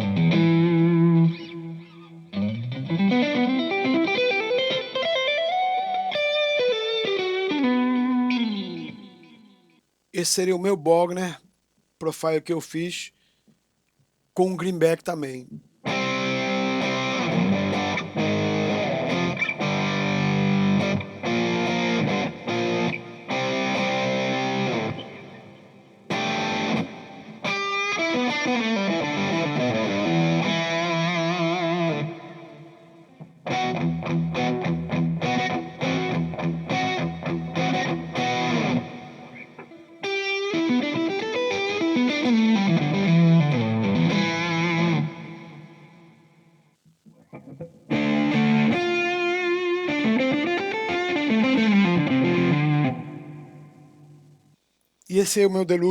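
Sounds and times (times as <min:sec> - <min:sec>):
overdriven electric guitar lead: 0:00.0 - 0:09.5, 0:15.2 - 0:46.3, 0:47.1 - 0:54.4.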